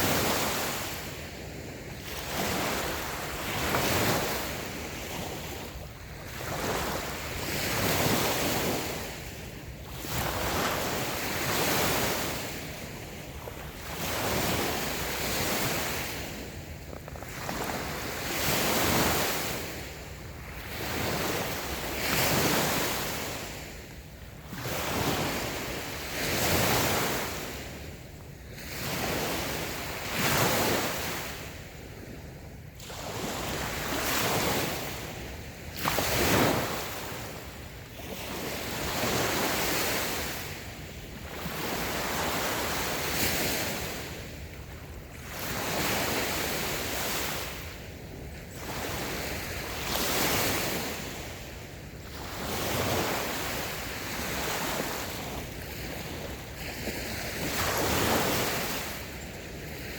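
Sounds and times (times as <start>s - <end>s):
waves washing onto sand: 0.0s - 59.9s.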